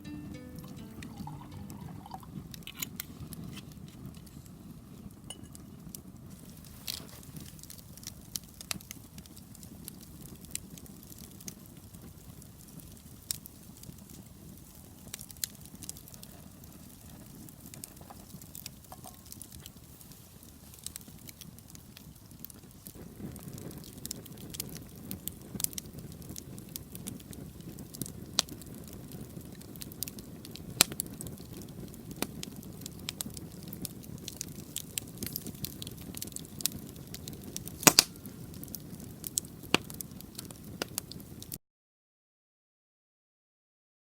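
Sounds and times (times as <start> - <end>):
fire crackles and pops: 0.0 - 41.6.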